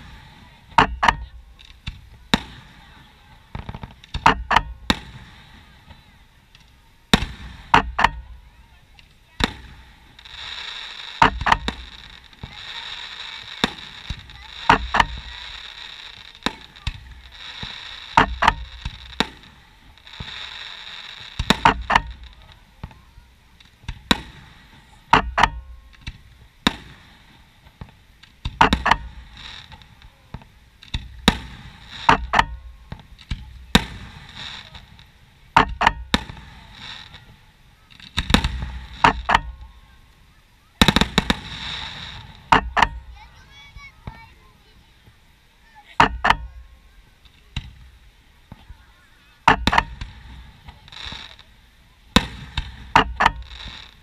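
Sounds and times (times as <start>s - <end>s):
firework shells bursting: 0.0s - 45.2s, 49.4s - 54.0s
steady hissing: 0.0s - 54.0s.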